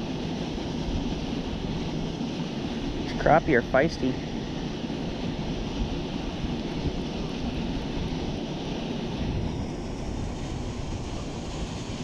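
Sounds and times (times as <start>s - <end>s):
wind buffeting microphone: 0.6s - 12.0s.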